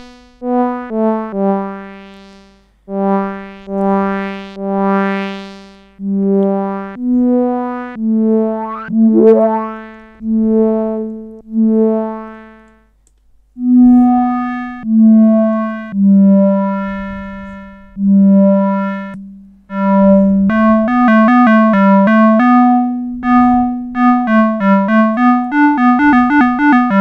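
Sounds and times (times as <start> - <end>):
synthesizer notes: 2.9 - 12.7, 13.6 - 27.0.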